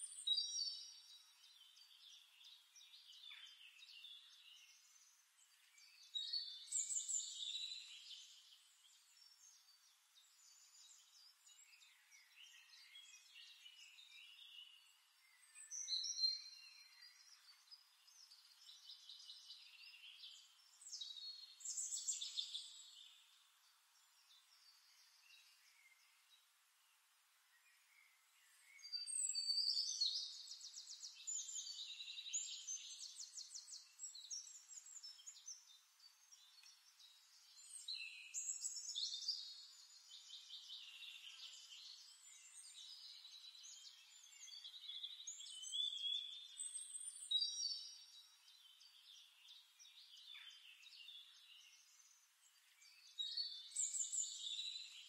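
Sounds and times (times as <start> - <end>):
birds chirping and singing: 0.0 - 26.4, 27.7 - 55.0.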